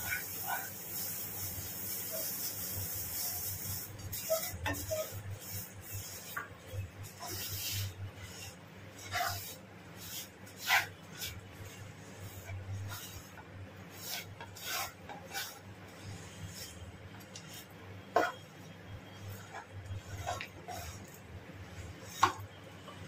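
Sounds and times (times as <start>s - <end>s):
wooden spatula scraping a pan: 0.0s - 23.0s.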